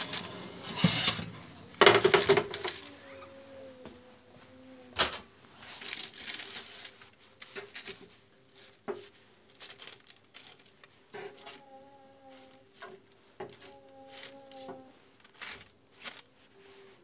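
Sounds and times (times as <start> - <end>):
baking paper crinkling: 0.0 - 3.3, 5.5 - 17.0.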